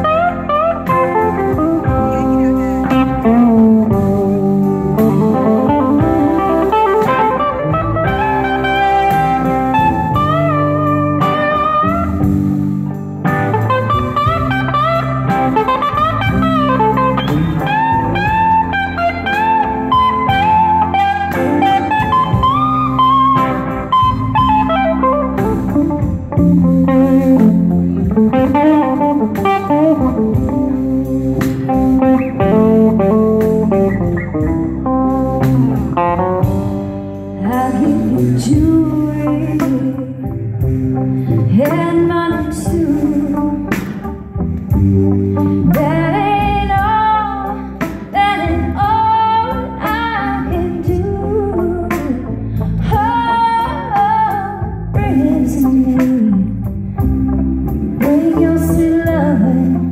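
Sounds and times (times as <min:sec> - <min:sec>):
bass guitar: 0:00.0 - 0:59.9
drums: 0:00.0 - 0:59.9
electric guitar lead: 0:00.0 - 0:59.9
keyboard: 0:00.0 - 0:59.9.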